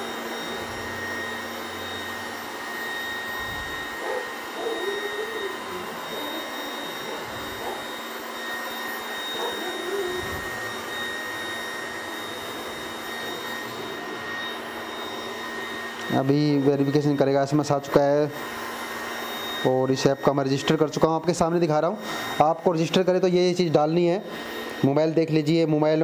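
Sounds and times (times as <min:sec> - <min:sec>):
robot vacuum whirring: 0:00.0 - 0:26.0
thin high whine: 0:00.0 - 0:26.0.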